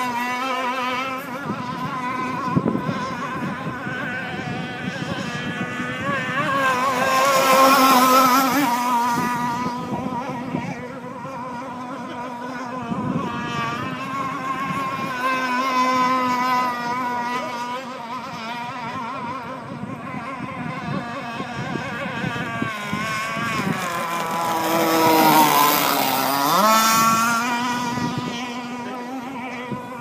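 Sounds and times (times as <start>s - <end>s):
boat engine running at speed: 0.0s - 30.0s.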